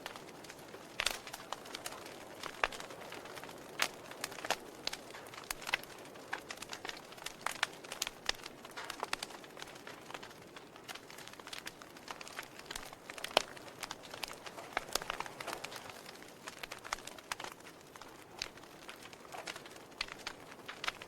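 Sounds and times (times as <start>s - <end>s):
faint fire hiss: 0.0s - 21.0s
wood fire crackling: 0.0s - 21.0s.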